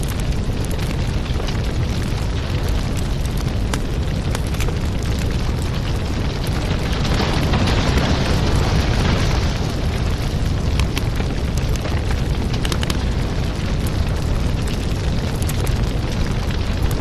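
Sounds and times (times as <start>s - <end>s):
fire hissing: 0.0s - 17.0s
fireplace fire crackling: 0.0s - 17.0s.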